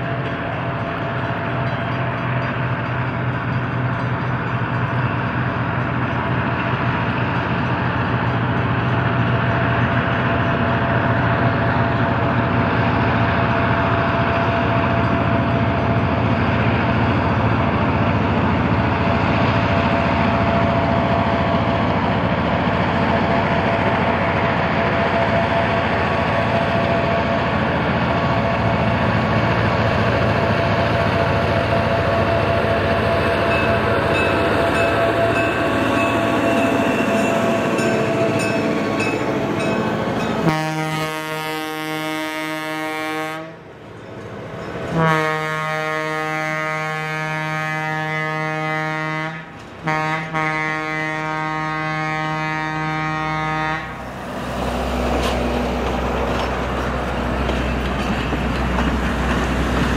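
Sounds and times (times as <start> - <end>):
train rail noise: 0.0 - 59.9.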